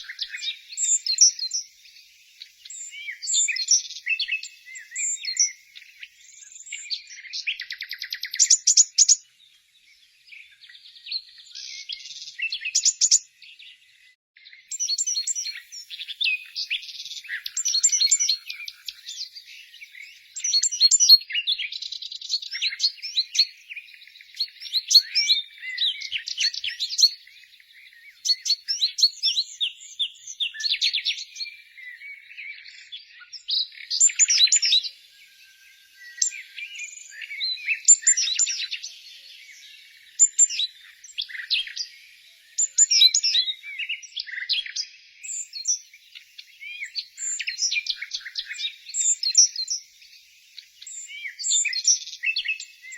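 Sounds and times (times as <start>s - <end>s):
songbirds chirping and singing: 0.0s - 52.9s.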